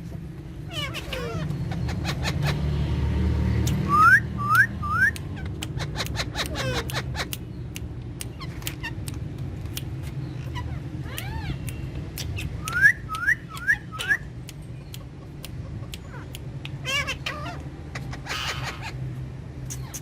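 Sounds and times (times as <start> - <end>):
parakeets calling: 0.5 - 20.0.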